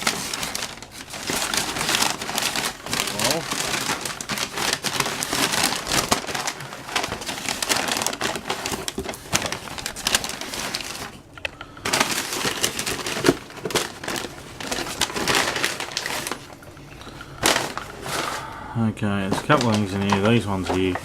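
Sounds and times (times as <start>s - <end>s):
cardboard box packing rustling: 0.0s - 21.0s.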